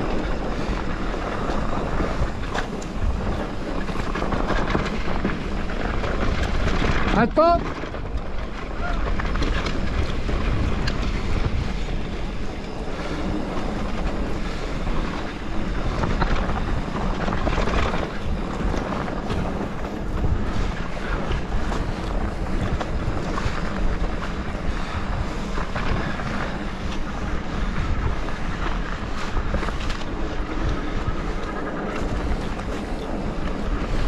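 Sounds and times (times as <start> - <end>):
bike rattles and knocks: 0.0 - 34.0
bike tyres on dirt and gravel: 0.0 - 34.0
wind on microphone: 0.0 - 34.0.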